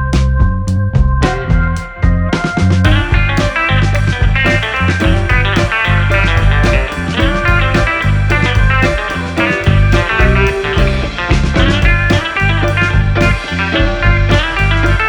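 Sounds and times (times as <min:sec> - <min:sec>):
guitar-led rock music: 0:00.0 - 0:15.0.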